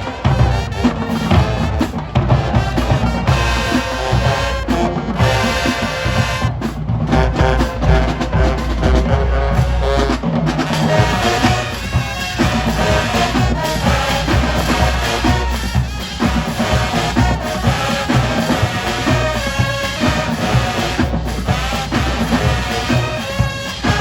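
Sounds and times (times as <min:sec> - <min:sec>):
brass sustained chords: 0:00.0 - 0:24.0
marching drumline: 0:00.0 - 0:24.0.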